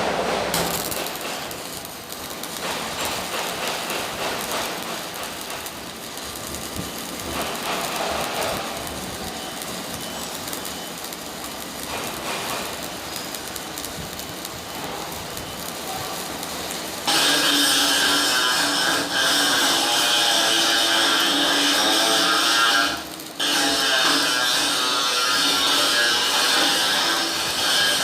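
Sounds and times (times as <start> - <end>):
welding arc crackling: 0.0 - 28.0.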